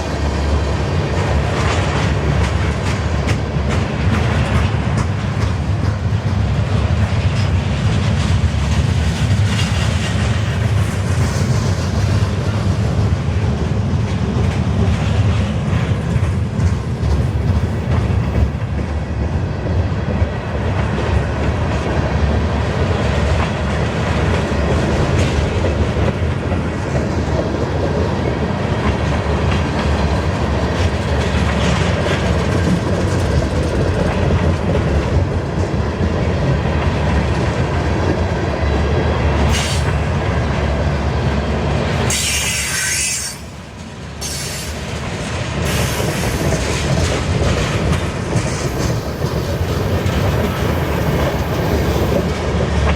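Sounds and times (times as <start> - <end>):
freight train rolling on rails: 0.0 - 52.9.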